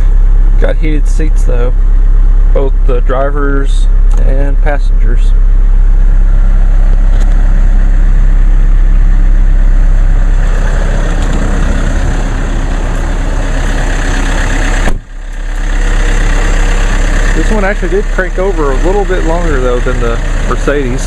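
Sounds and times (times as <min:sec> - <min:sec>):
defroster fan blowing: 0:00.0 - 0:21.0
diesel car engine idling: 0:00.0 - 0:21.0.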